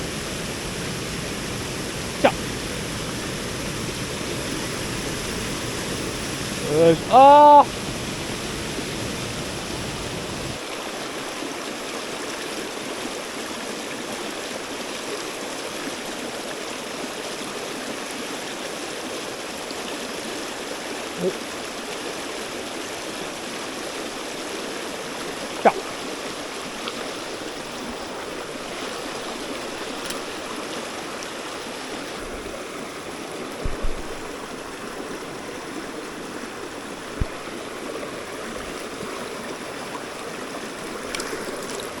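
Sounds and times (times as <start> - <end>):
stream rushing: 0.0 - 42.0.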